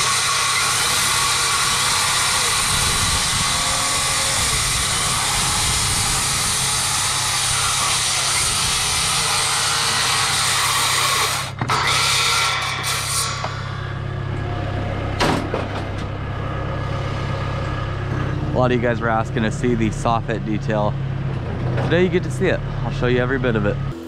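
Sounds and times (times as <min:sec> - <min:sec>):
circular saw cutting timber: 0:00.0 - 0:24.0.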